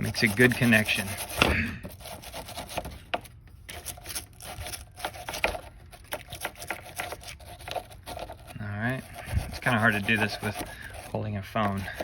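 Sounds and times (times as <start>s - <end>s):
wire brush scrubbing metal: 0.0s - 3.0s, 3.7s - 12.0s.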